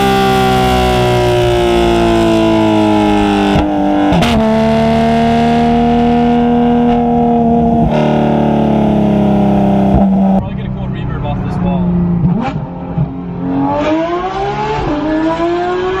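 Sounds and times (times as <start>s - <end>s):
raspy car exhaust drone: 0.0s - 13.5s.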